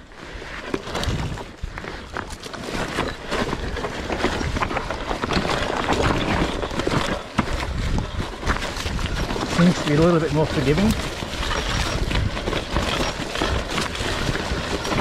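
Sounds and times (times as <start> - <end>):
bike rattling and knocking: 0.0 - 15.0
tyres crunching over rocks: 0.2 - 15.0.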